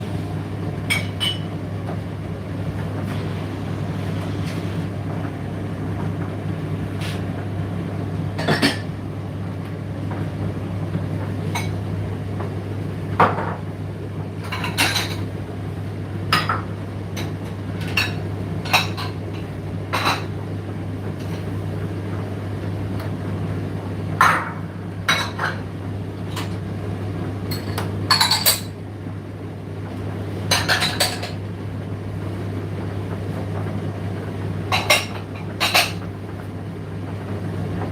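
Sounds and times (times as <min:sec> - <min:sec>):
tumble dryer humming: 0:00.0 - 0:37.9.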